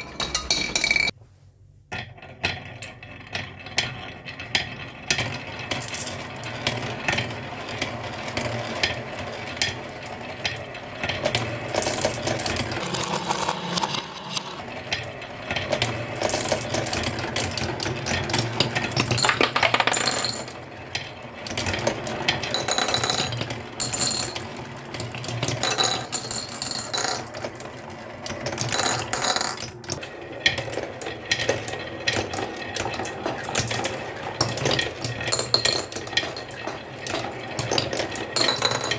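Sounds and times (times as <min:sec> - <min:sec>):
marbles rolling on wooden track: 0:00.0 - 0:01.1, 0:01.9 - 0:38.9
marbles clicking and knocking: 0:02.0 - 0:38.9.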